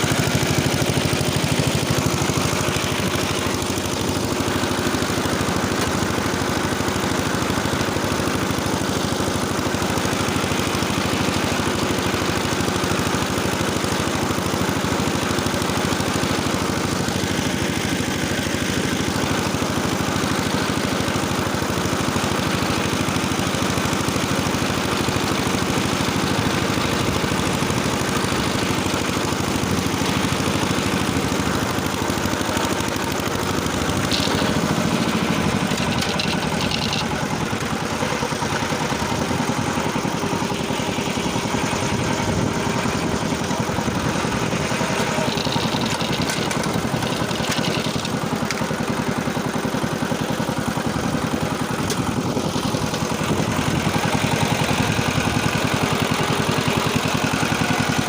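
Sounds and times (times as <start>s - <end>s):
tiller engine running: 0.0s - 58.0s.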